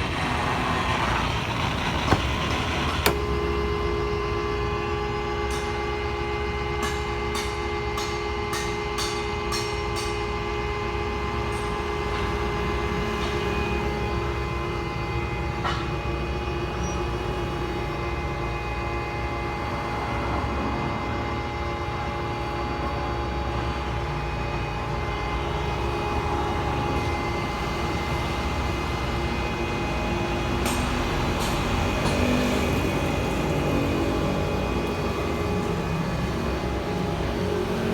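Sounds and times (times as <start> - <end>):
drilling machine gearbox hum: 0.0 - 37.9.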